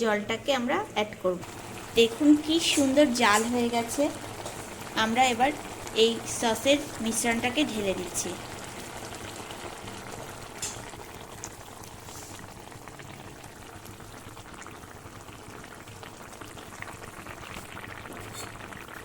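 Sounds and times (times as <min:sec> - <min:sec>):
soup bubbling on the boil: 0:00.7 - 0:19.0.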